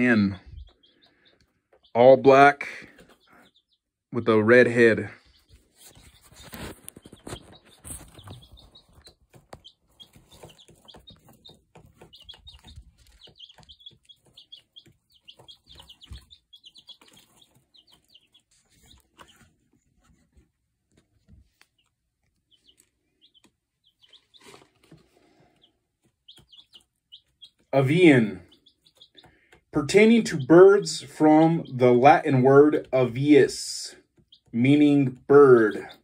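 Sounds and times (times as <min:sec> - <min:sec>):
baby chicks peeping: 0:00.0 - 0:36.0.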